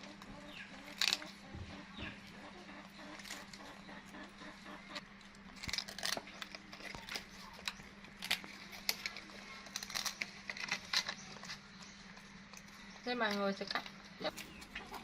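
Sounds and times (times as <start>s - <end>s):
monkey chewing crispy crackers: 0.0s - 15.0s
steady low hum: 0.0s - 15.0s.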